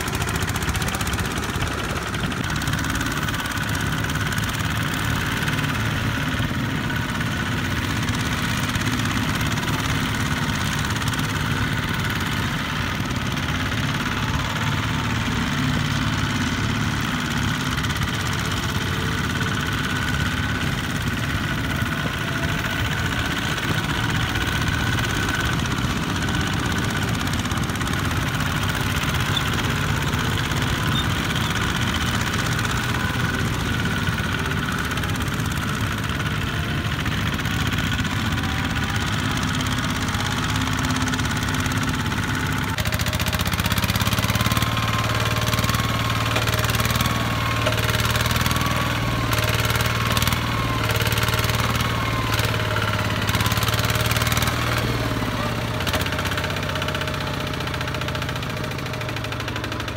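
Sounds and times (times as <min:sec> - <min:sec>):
diesel tractor engines chugging: 0:00.0 - 0:59.9.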